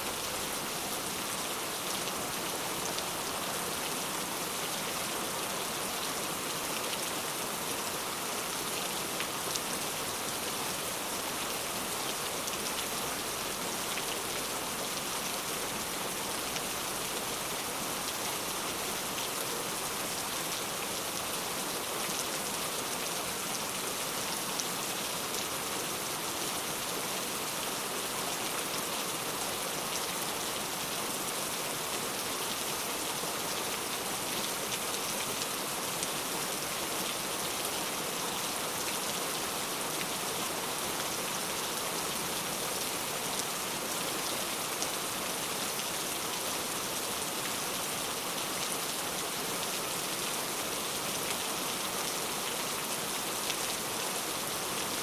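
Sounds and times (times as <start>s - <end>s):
heavy rain on hard surfaces: 0.0s - 55.0s.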